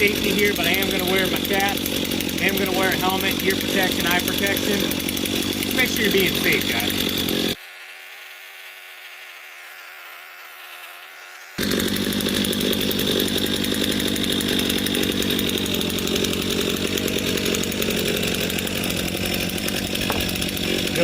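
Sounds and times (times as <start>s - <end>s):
chainsaw running: 0.0s - 21.0s.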